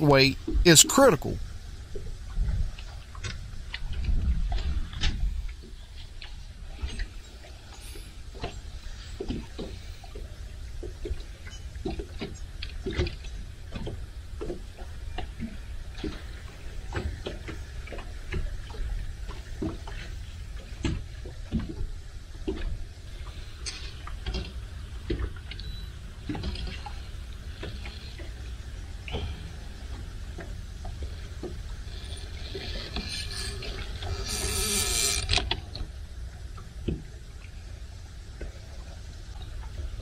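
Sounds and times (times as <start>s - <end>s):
waves slapping against boat hull: 0.0s - 34.1s, 35.2s - 40.0s
wind rumbling on microphone: 0.0s - 40.0s.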